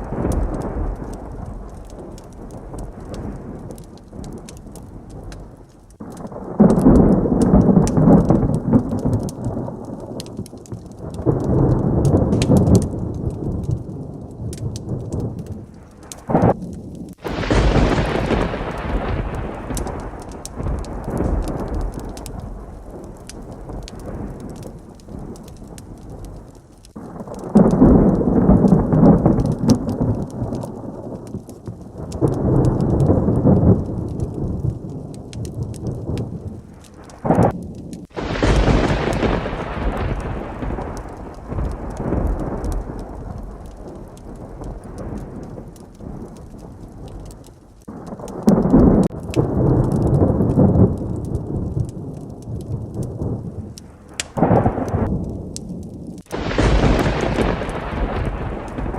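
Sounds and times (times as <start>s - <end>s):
heavy rain: 0.0s - 58.9s
thunder rumbling: 0.0s - 58.9s.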